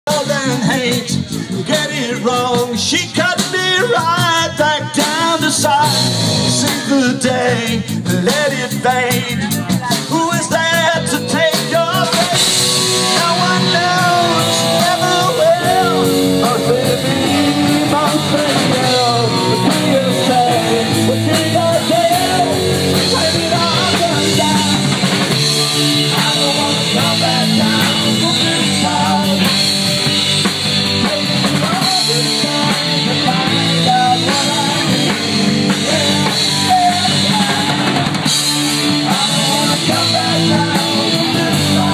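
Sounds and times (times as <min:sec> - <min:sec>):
bass guitar: 0:00.0 - 0:41.9
drum kit: 0:00.1 - 0:41.9
electric guitars: 0:00.1 - 0:41.9
person singing: 0:00.1 - 0:41.9.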